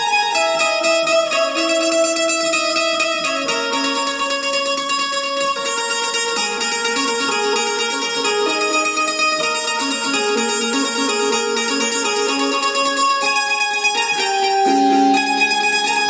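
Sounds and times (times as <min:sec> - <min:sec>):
electric banjo melody: 0:00.0 - 0:16.0.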